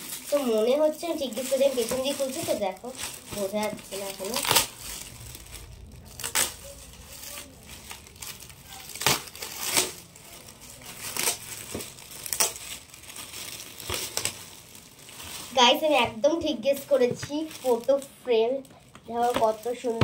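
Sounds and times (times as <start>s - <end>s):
foil wrapping paper crinkling: 0.0s - 20.0s.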